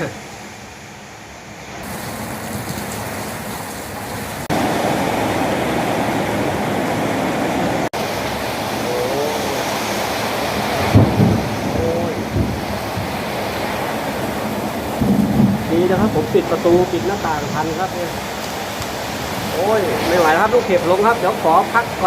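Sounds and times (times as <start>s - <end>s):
heavy rain: 0.0s - 22.0s
storm wind: 0.0s - 22.0s.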